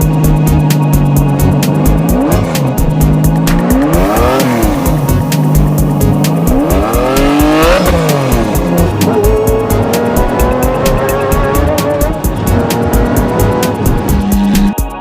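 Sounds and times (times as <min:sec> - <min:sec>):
background music with beat: 0:00.0 - 0:15.0.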